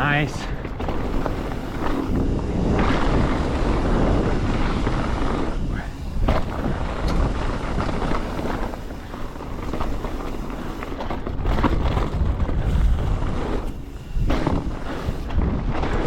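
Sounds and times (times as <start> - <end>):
bike rattling: 0.0 - 16.0
tyres rumbling on dirt: 0.0 - 16.0
wind on microphone: 0.0 - 16.0
sharp bike clatter: 0.5 - 16.0.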